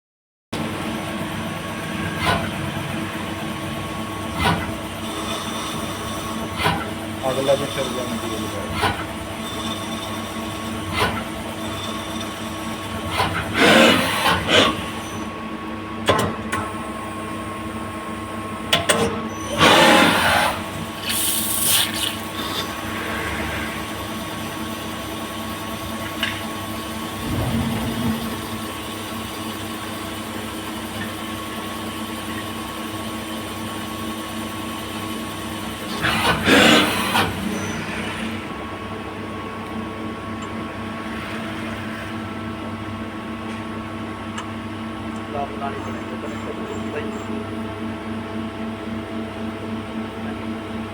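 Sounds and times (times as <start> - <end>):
lathe machine hum: 0.6 - 16.0, 19.3 - 45.1.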